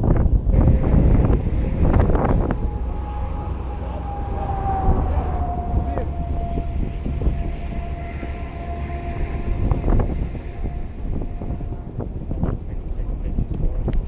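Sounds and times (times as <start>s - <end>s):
wind rumble on microphone: 0.0s - 14.0s
warning siren steady tone: 0.5s - 13.0s.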